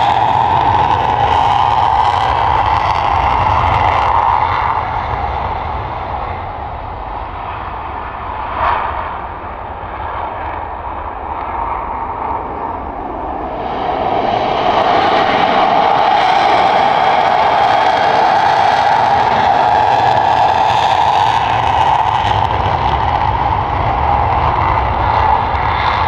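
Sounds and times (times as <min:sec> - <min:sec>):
jet engine running: 0:00.0 - 0:26.0.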